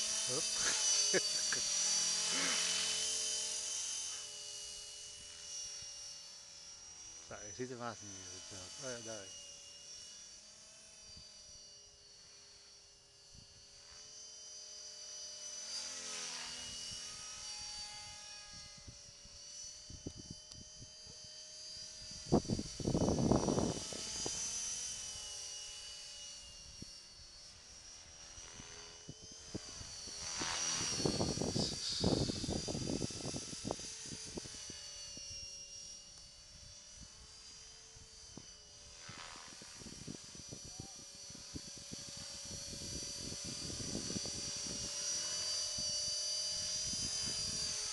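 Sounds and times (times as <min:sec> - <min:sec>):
rc helicopter motor whine: 0:00.0 - 0:47.9.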